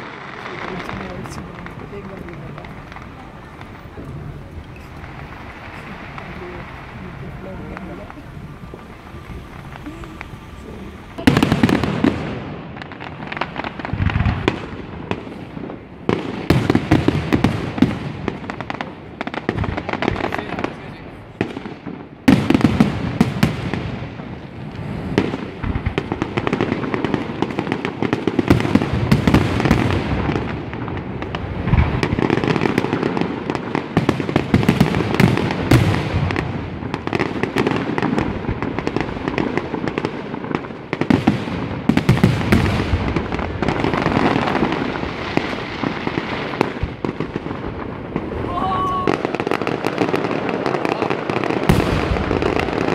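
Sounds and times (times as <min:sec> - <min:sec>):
fireworks bursting: 0:00.0 - 0:52.9
fireworks crackling: 0:00.0 - 0:52.9.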